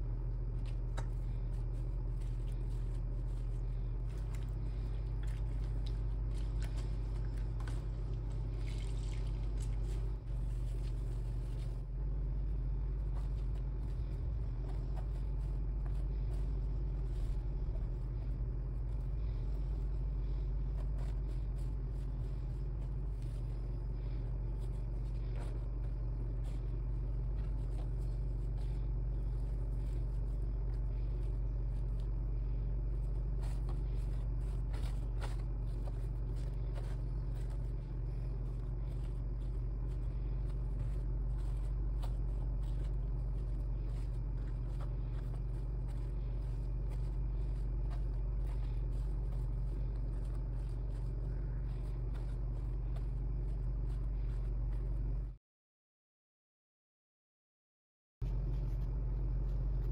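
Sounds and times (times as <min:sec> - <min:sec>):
faint clicks and rustles: 0:00.0 - 0:55.4
steady low rumble: 0:00.0 - 0:55.4, 0:58.2 - 0:59.9.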